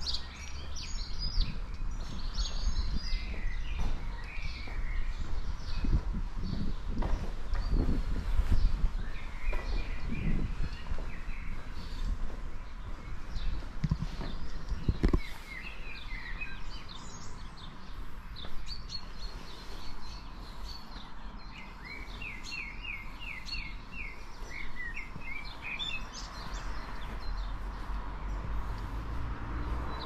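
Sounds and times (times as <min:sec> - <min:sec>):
songbirds singing and chirping: 0:00.0 - 0:30.0.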